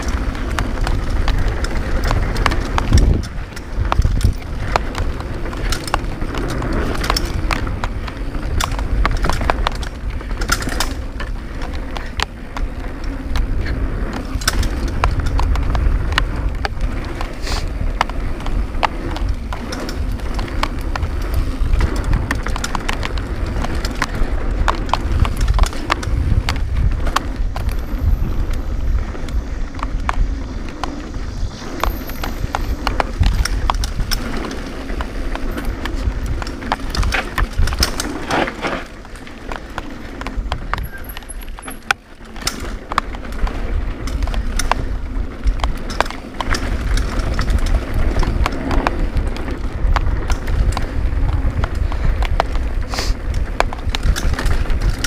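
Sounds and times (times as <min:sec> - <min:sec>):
bike rattling over bumps: 0:00.0 - 0:55.0
tyres rumbling over dirt: 0:00.0 - 0:55.0
wind on microphone: 0:00.0 - 0:55.0.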